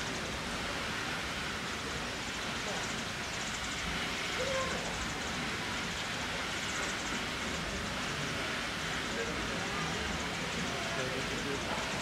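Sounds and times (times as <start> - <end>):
geyser steam hissing: 0.0 - 12.0.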